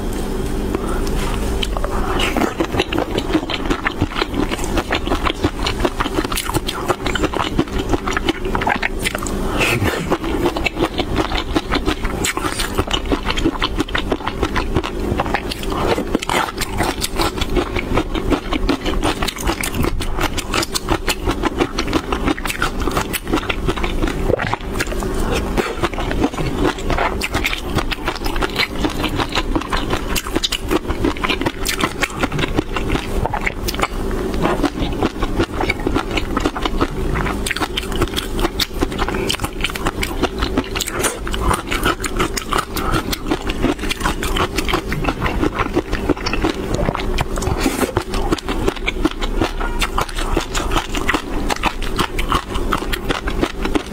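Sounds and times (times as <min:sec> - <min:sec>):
chewing shrimp with crackling clicks: 0:01.0 - 0:09.4, 0:10.1 - 0:53.9.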